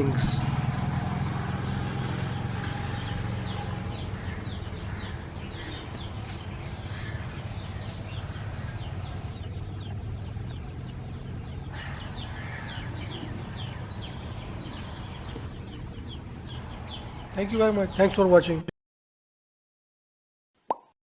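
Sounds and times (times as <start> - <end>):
small birds chirping: 0.0 - 18.7.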